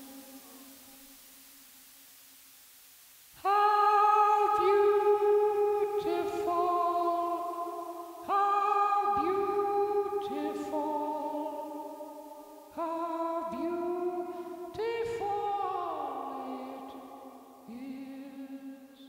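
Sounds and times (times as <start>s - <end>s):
choir-like vocal chords: 3.4s - 19.0s.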